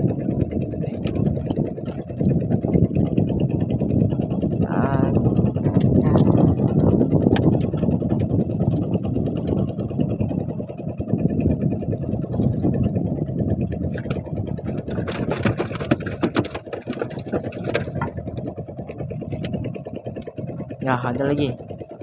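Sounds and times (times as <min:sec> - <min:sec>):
small boat engine running: 0:00.0 - 0:22.0
sharp clicks and rattles: 0:00.2 - 0:03.8, 0:04.6 - 0:10.5, 0:11.4 - 0:22.0.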